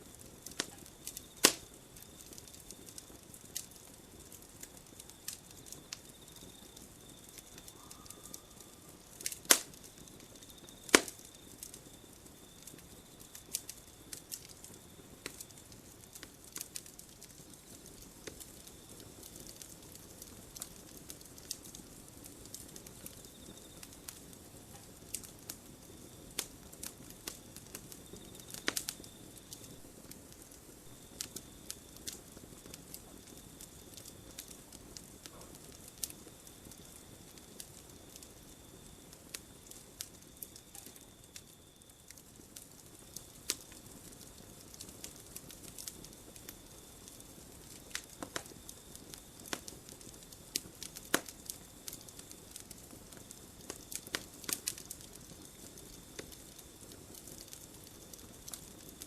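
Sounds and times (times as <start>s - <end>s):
campfire crackling and popping: 0.0s - 59.0s
low fire hiss: 0.0s - 59.0s.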